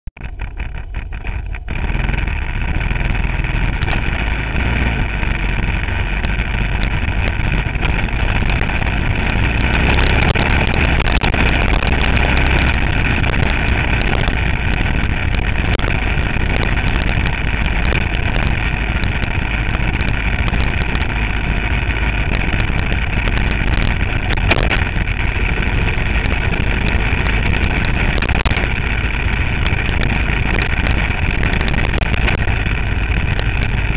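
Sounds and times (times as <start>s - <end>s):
motorcycle engine: 0.1s - 33.9s
road noise: 0.1s - 33.9s
wind noise: 0.2s - 33.9s.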